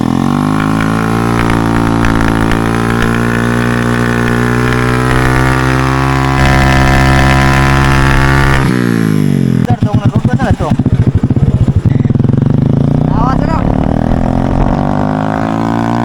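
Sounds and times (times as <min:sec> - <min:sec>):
motorcycle engine at steady revs: 0:00.0 - 0:16.0.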